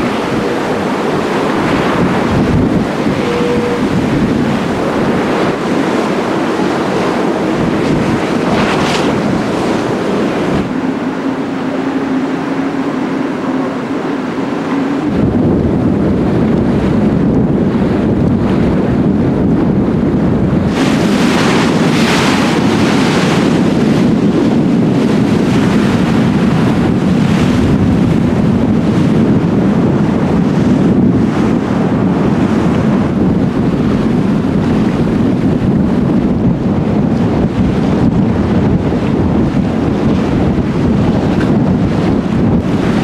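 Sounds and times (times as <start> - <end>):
water rushing along hull: 0.0 - 43.0
wind buffeting microphone: 0.0 - 43.0.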